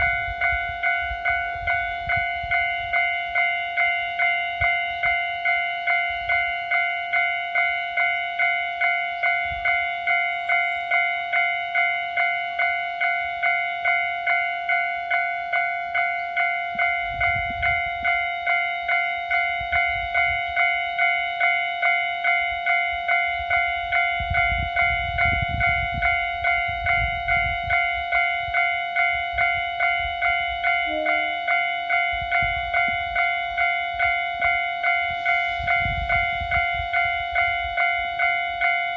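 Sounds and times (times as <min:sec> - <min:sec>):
level crossing bell clanging: 0:00.0 - 0:38.9.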